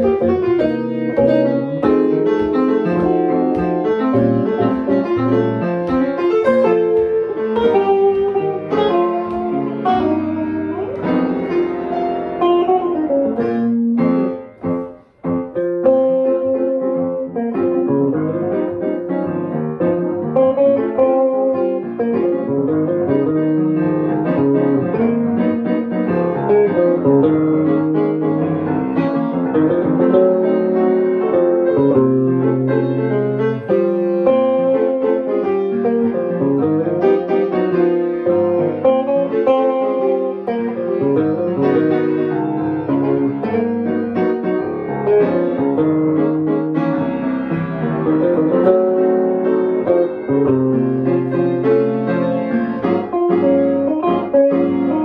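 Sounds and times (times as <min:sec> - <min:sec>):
guitar: 0:00.0 - 0:55.0
upright piano: 0:00.0 - 0:55.0.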